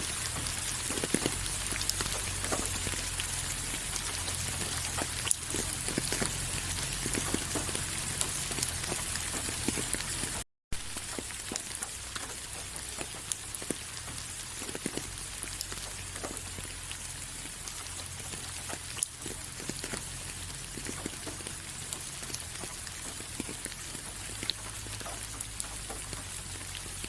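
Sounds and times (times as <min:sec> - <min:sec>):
raindrops ticking on a surface: 0:00.0 - 0:27.0
steady rain hiss: 0:00.0 - 0:27.0.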